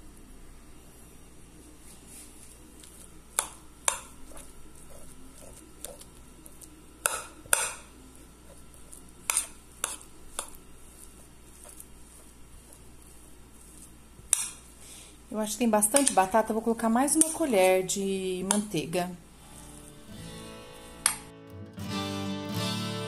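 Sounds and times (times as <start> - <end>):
spoon scraping mashed potatoes: 1.8 - 21.3.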